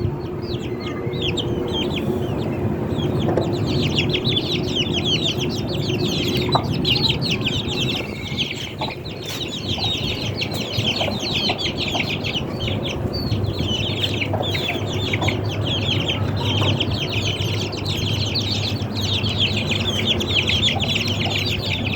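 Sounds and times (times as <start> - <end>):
chickens clucking: 0.0 - 21.9
high-pitched chirping: 0.2 - 21.9.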